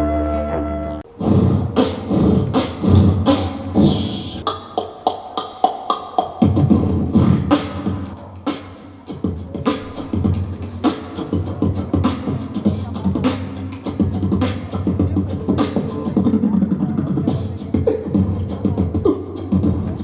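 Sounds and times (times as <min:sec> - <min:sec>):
person beatboxing: 0:01.1 - 0:20.0.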